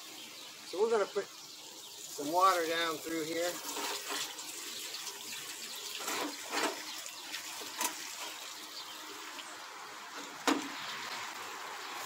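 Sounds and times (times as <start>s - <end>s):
water running into drain pipe: 0.0s - 12.0s.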